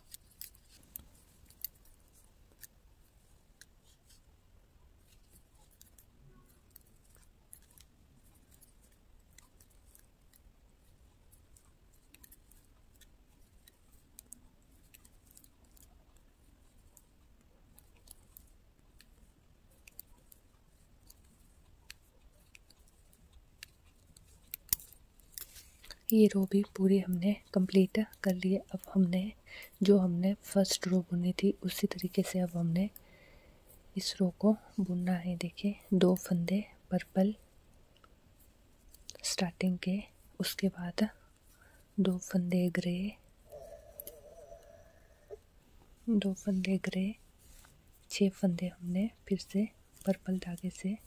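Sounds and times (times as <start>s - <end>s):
knitting needles clicking: 0.0s - 51.0s.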